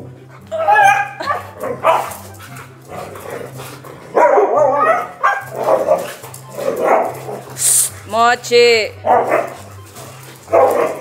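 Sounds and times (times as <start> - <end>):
dogs barking and yipping: 0.0 - 8.1, 8.9 - 11.0.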